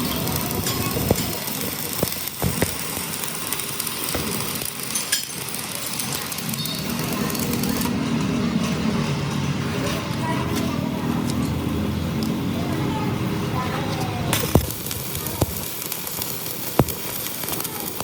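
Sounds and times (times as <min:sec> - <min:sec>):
engines running steadily: 0:00.0 - 0:18.0.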